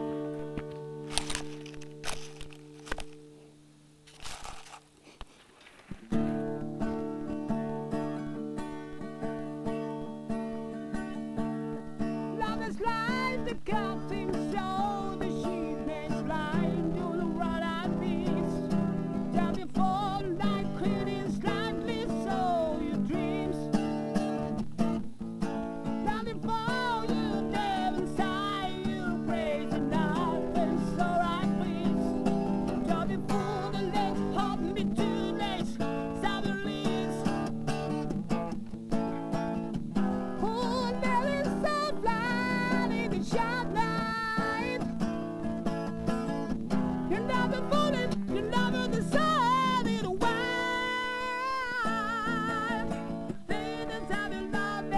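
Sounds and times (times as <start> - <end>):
electro-acoustic guitar melody: 0.0 - 54.9.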